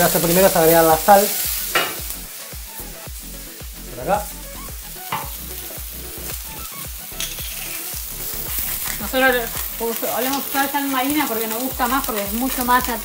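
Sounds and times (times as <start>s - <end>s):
vegetables sizzling on griddle: 0.0s - 13.0s.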